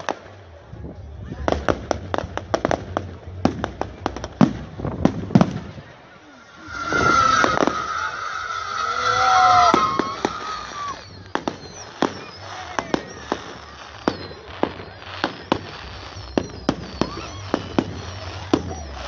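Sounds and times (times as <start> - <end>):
fireworks bangs and crackles: 0.0 - 19.0
whistling rockets: 1.3 - 19.0.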